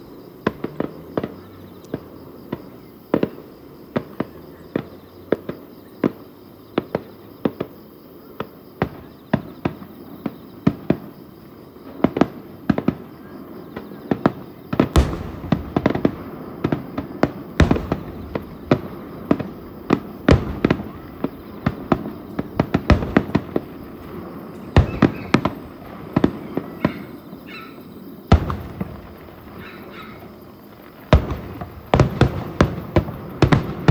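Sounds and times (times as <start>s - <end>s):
fireworks bursting with sharp bangs: 0.0s - 33.9s.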